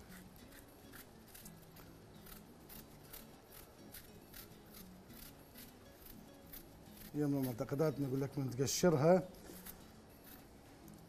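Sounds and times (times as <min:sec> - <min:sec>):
peeler scraping apple skin: 0:00.0 - 0:10.5.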